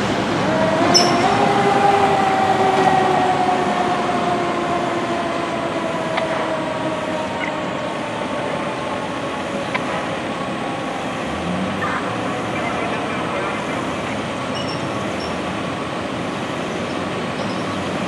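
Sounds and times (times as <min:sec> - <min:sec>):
engine noise: 0:00.0 - 0:18.0
fire truck siren: 0:00.0 - 0:18.0
street noise: 0:00.0 - 0:18.0.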